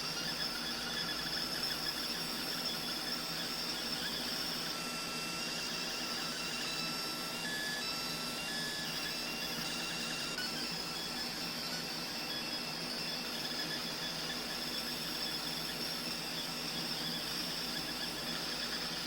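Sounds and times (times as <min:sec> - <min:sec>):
laser engraver humming and hissing: 0:00.0 - 0:19.0.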